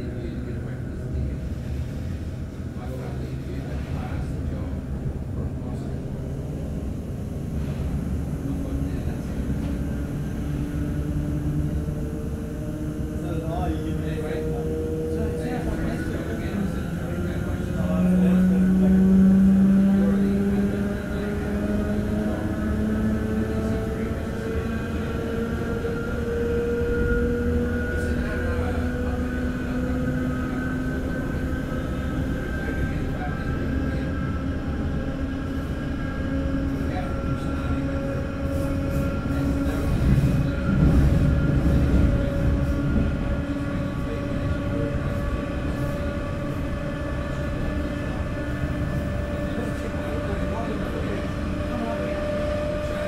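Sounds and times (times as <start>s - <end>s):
wheels rumbling on track: 0.0s - 53.0s.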